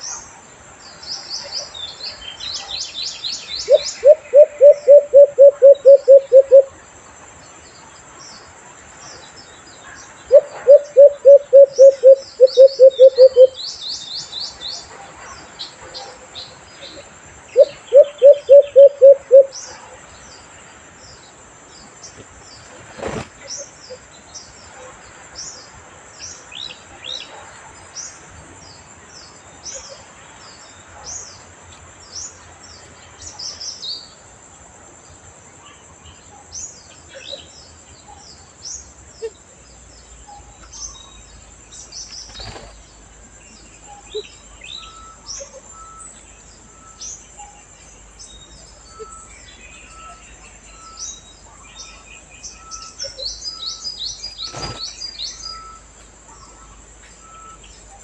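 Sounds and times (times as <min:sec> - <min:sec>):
birds chirping: 0:00.0 - 0:34.3, 0:35.6 - 0:58.0.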